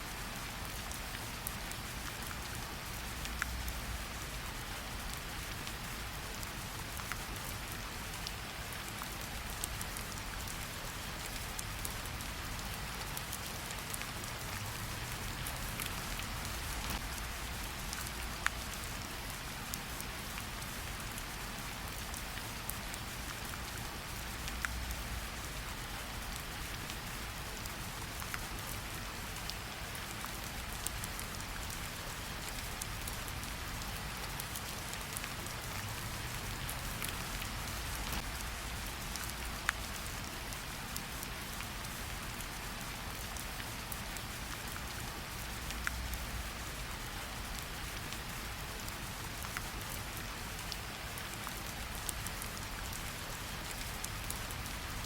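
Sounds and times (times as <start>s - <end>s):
light rain pattering on leaves: 0.0s - 55.0s.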